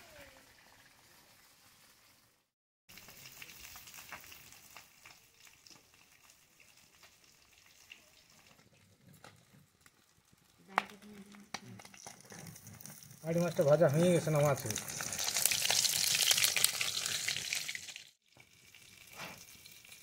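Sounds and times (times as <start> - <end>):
fish sizzling in oil: 0.0 - 11.0, 11.8 - 20.0.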